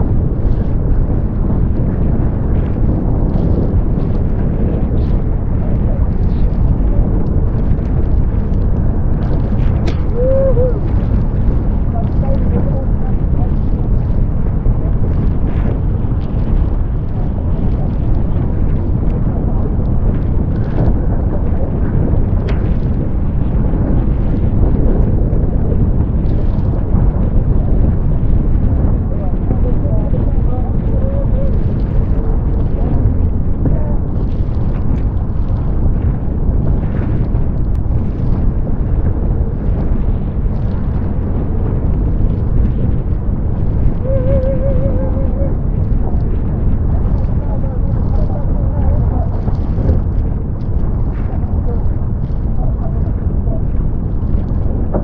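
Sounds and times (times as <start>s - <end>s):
water rushing and splashing: 0.0s - 55.0s
wind buffeting microphone: 0.0s - 55.0s.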